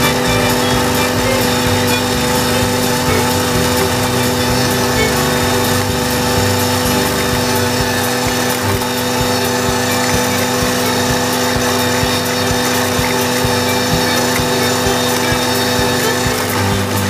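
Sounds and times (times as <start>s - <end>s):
flail mower hissing through grass: 0.0s - 17.0s
tractor diesel engine under load: 0.0s - 17.0s.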